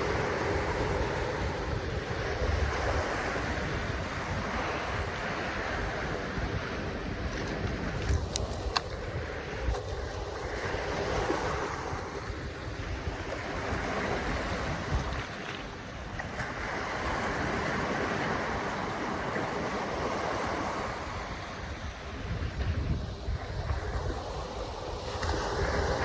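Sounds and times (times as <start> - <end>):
wind gusting against microphone: 0.0 - 26.0.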